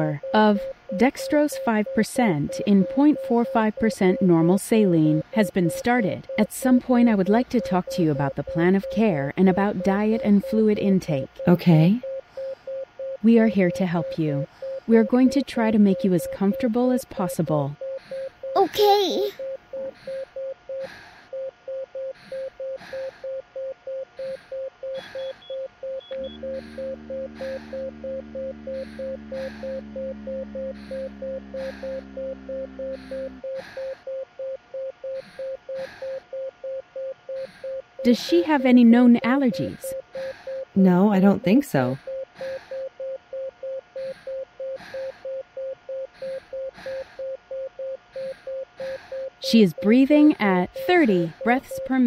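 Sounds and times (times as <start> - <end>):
patient monitor beeping: 0.0 - 52.0.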